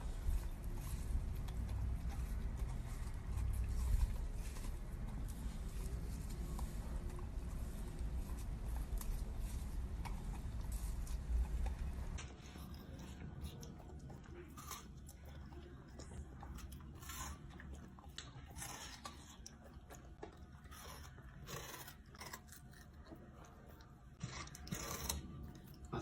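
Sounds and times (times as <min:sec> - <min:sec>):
dog chewing and crunching food: 0:00.0 - 0:26.0.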